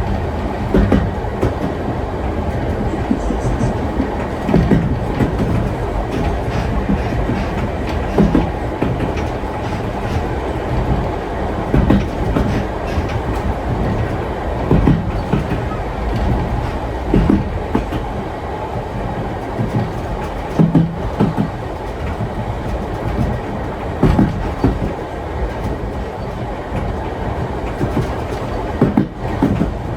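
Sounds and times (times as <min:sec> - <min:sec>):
railway carriage rumble: 0:00.0 - 0:29.9
wheel knocks over rail joints: 0:00.0 - 0:29.9.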